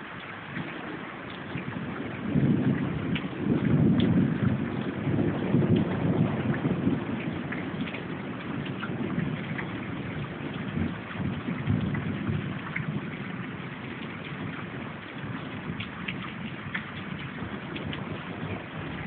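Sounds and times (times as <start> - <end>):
raindrop ticks: 0.0 - 19.0
steady rain falling: 0.0 - 19.0
thunder rumbling: 0.0 - 19.0.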